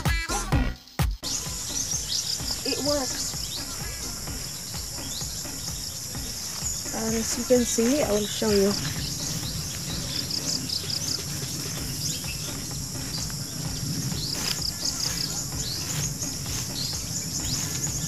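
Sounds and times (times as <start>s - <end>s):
insects droning: 0.0s - 18.0s
bird chirps: 0.3s - 18.0s.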